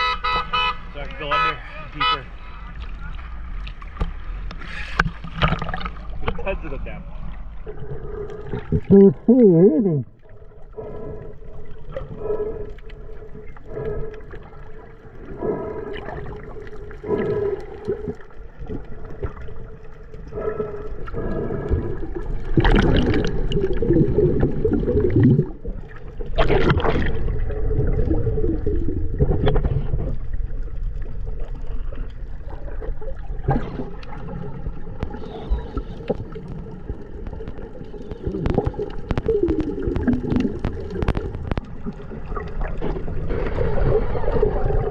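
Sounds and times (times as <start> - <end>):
underwater water sloshing: 0.2 - 44.9.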